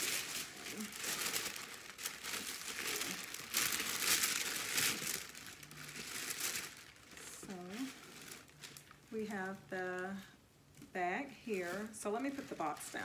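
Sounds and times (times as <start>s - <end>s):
tissue paper rustling: 0.0s - 10.2s, 11.5s - 13.0s.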